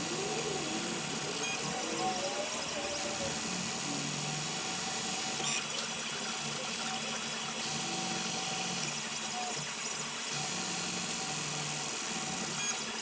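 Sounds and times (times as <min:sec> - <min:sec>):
stepper motors humming: 0:00.0 - 0:13.0.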